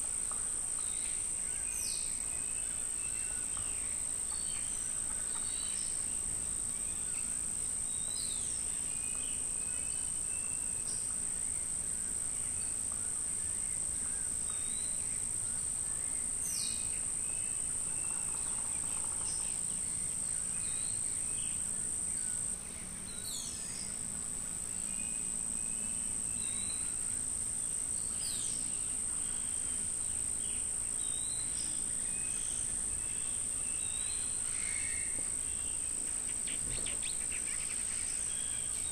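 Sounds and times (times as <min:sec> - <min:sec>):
high-pitched insect drone: 0:00.1 - 0:38.9.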